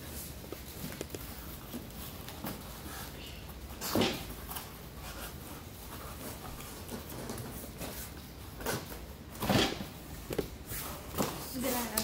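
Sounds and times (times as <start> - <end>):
cardboard and bubble wrap rustling: 0.0 - 12.0.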